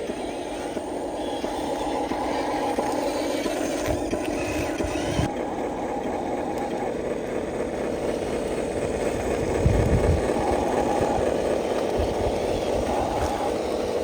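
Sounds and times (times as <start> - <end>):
electric motor and gearbox running: 0.0 - 14.0.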